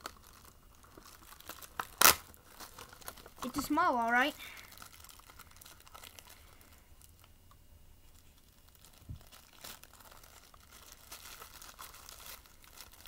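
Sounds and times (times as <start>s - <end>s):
plastic bag crinkling and tearing: 0.0s - 7.4s, 8.0s - 13.0s.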